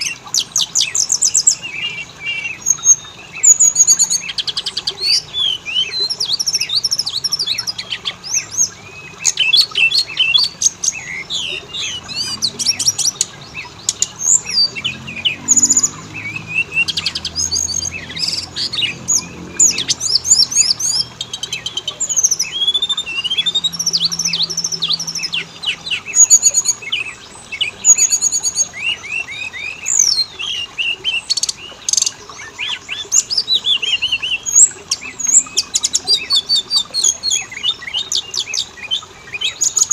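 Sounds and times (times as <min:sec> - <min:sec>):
bird song with whistles and trills: 0:00.0 - 0:39.9.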